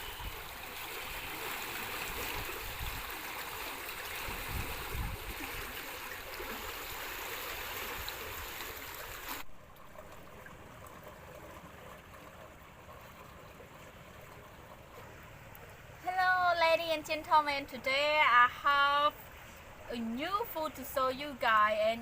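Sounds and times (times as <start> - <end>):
flowing water rushing: 0.0 - 21.8.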